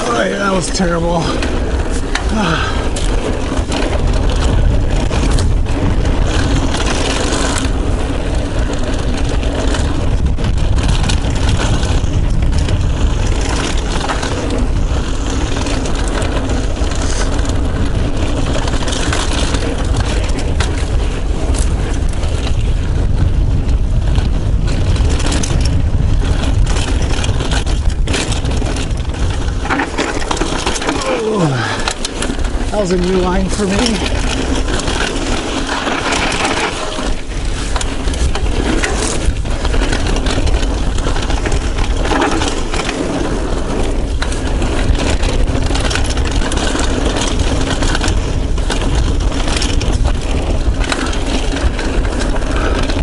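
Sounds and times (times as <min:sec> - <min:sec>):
bike clicks and rattles: 0:00.0 - 0:53.0
bike tyres rumbling on dirt: 0:00.0 - 0:53.0
wind on microphone: 0:00.0 - 0:53.0.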